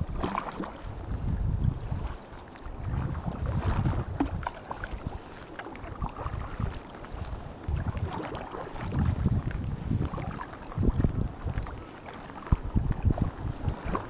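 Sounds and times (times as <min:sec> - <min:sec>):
water splashes and drips: 0:00.0 - 0:00.9, 0:02.3 - 0:14.0
paddle dipping into water: 0:00.0 - 0:14.0
wind rumbling on microphone: 0:00.0 - 0:14.0.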